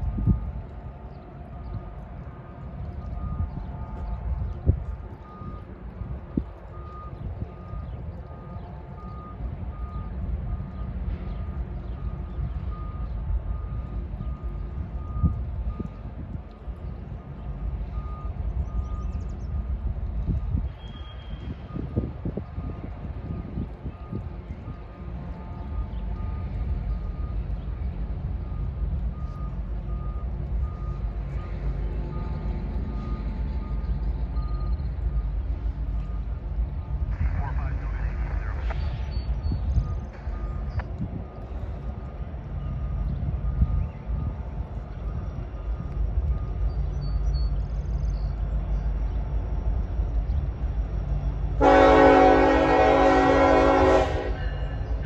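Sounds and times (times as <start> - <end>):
low rumble of train: 0.0 - 55.0.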